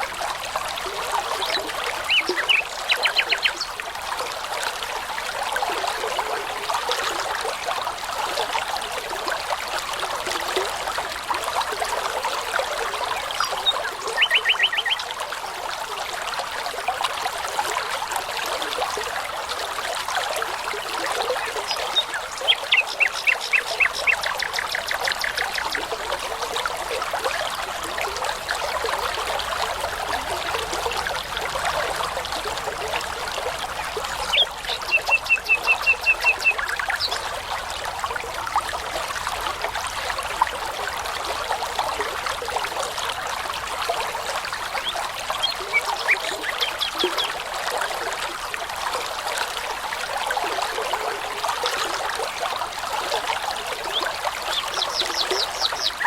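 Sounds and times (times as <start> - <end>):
brook water running: 0.0 - 56.0.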